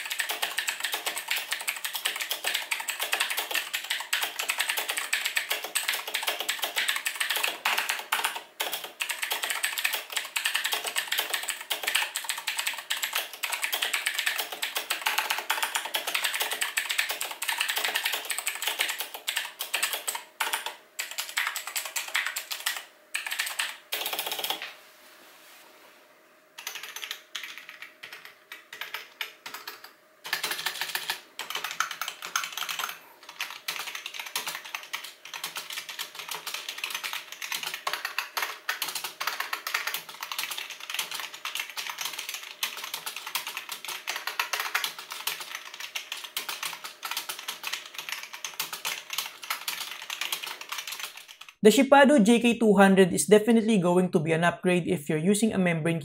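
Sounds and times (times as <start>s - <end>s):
typing on clicky mechanical keyboard: 0.0s - 24.6s, 26.6s - 51.6s
typing on membrane keyboard: 0.0s - 24.6s, 26.6s - 51.6s.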